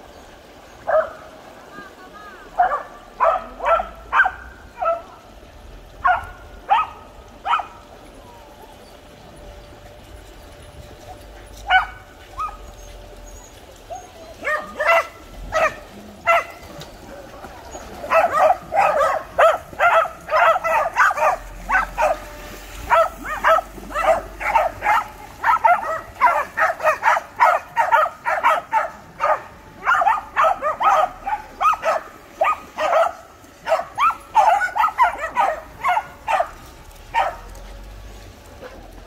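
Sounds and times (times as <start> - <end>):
dogs barking: 0.8 - 1.3, 2.6 - 5.3, 6.0 - 7.9, 11.1 - 37.7.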